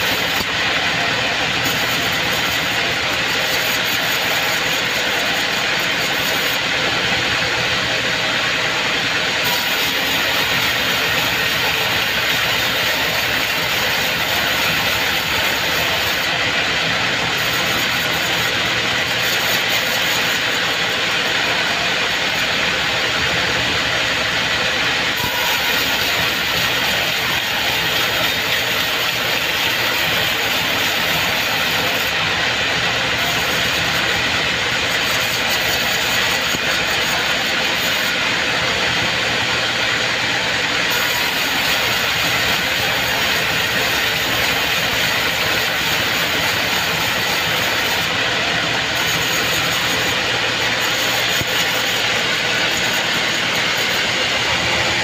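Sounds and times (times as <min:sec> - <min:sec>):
band saw ripping through wood: 0:00.0 - 0:06.7, 0:09.4 - 0:16.4, 0:17.1 - 0:22.6, 0:25.1 - 0:38.2, 0:40.8 - 0:55.0.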